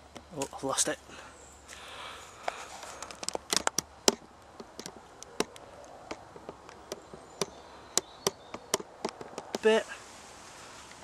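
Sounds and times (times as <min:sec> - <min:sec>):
twigs and bark being handled: 0:00.0 - 0:08.0, 0:08.6 - 0:11.0.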